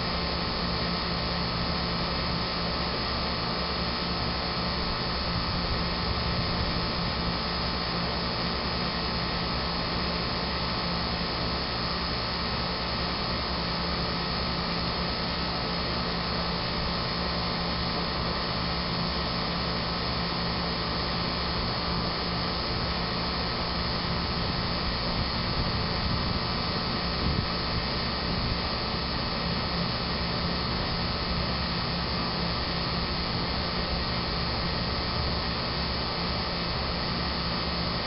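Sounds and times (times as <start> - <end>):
air conditioner unit humming: 0.0 - 38.0.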